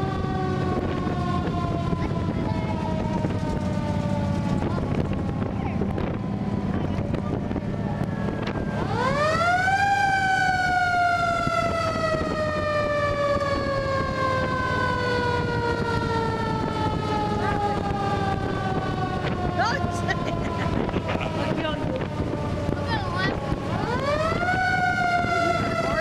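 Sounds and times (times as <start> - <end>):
fire truck siren: 0.0 - 26.0
truck rumbling: 0.0 - 26.0
wind on microphone: 0.0 - 26.0.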